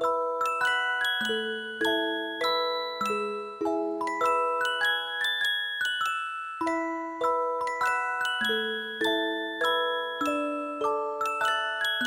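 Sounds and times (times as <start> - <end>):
glockenspiel melody: 0.0 - 12.0.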